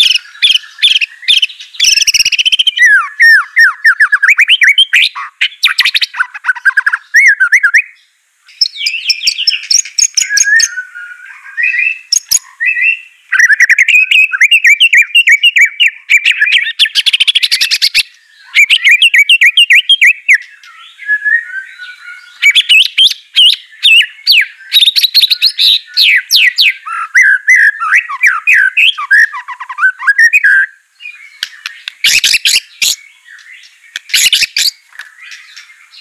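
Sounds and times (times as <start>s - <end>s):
songbird whistling and chattering: 0.0s - 36.0s.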